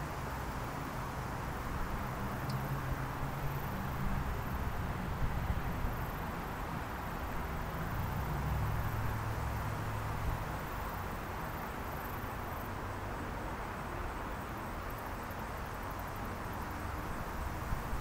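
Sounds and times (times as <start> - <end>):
distant traffic: 0.0 - 18.0
wind hiss: 0.0 - 18.0.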